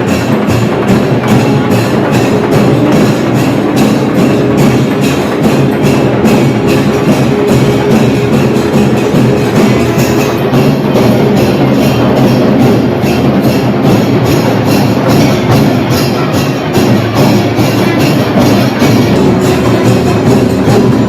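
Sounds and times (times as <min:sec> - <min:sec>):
loud music with drum beats: 0:00.0 - 0:21.0.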